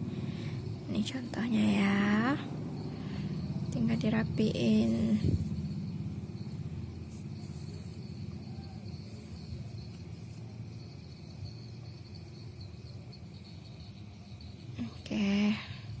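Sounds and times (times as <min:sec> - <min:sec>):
crickets trilling: 0:00.0 - 0:16.0
low background hum: 0:00.0 - 0:16.0.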